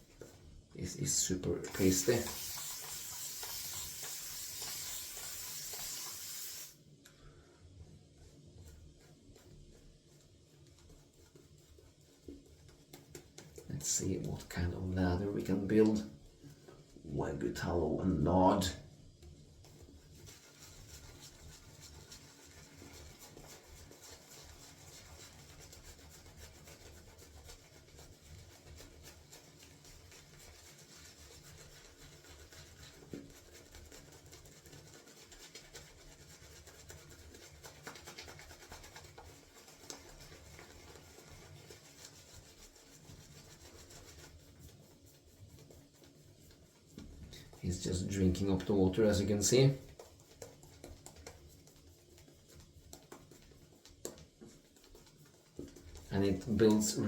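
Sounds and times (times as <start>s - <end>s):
shaving brush rubbing soap: 0.0s - 6.9s, 7.6s - 57.0s.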